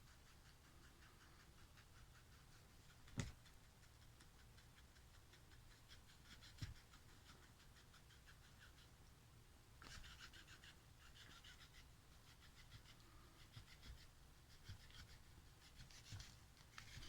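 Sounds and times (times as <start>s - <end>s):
cat scratching: 0.0s - 9.1s, 9.8s - 17.0s.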